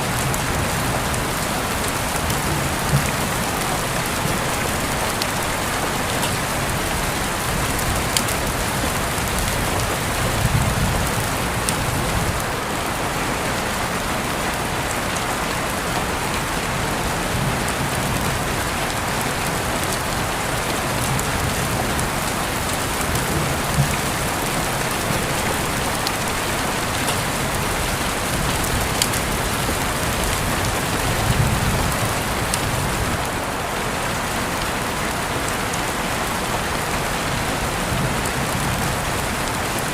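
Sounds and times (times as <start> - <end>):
raindrops tapping surfaces: 0.0 - 39.9
steady rain hiss: 0.0 - 39.9.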